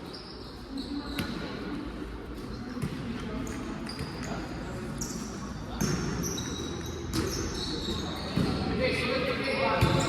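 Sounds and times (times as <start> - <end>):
murmur of crowd voices: 0.0 - 10.0
sneaker squeaks: 0.0 - 10.0.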